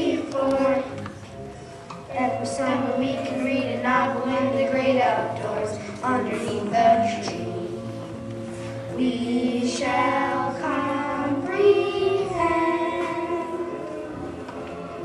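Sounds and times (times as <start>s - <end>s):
children singing: 0.0s - 1.1s, 2.1s - 7.9s, 8.9s - 14.1s
musical accompaniment: 0.0s - 15.0s.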